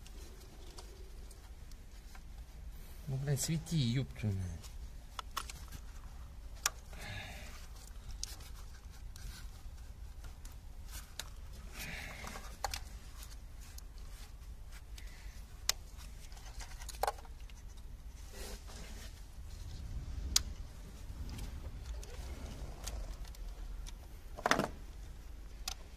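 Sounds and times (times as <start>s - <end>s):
rustling and scraping: 0.0s - 3.9s, 4.5s - 25.9s.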